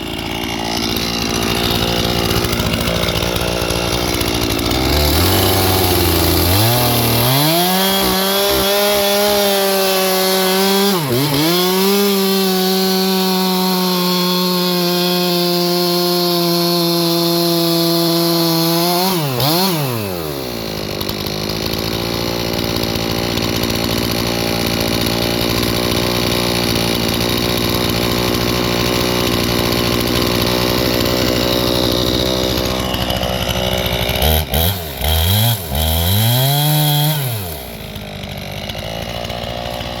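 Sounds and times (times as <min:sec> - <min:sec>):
electric chainsaw cutting: 0:00.0 - 0:40.0.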